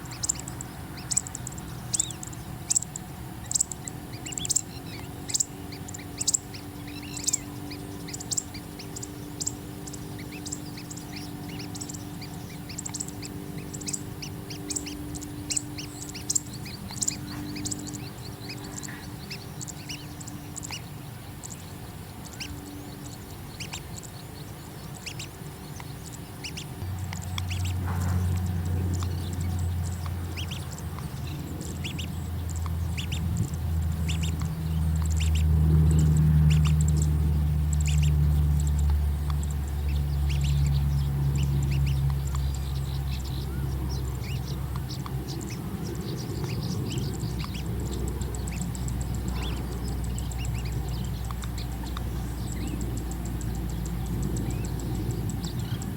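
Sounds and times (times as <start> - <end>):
high bird chirps: 0.0 - 55.9
low steady hum: 0.0 - 55.9.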